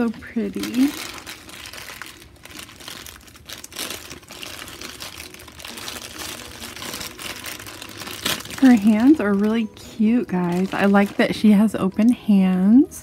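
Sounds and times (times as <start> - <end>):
plastic bags crinkling: 0.0 - 12.4.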